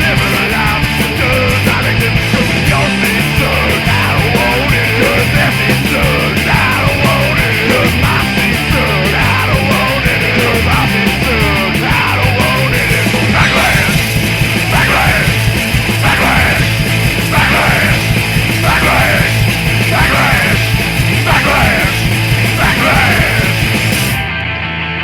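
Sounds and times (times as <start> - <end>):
punk rock band playing: 0.0 - 25.0.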